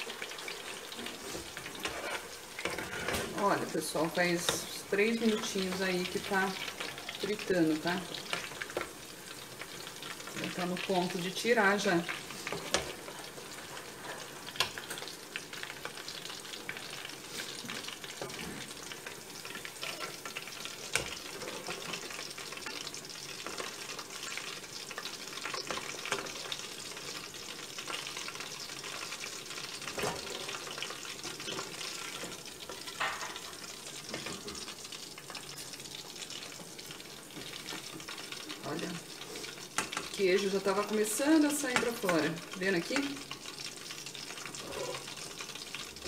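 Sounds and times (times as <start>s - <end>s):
meatballs sizzling in hot oil: 0.0s - 46.0s.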